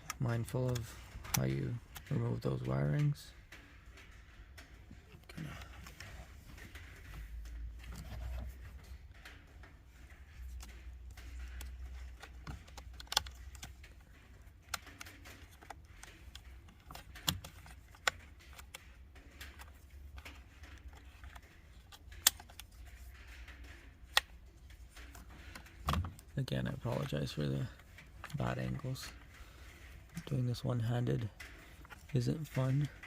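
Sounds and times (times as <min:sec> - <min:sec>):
low rumble of parts handled: 0:00.0 - 0:33.0
sharp clicks and knocks: 0:00.0 - 0:33.0.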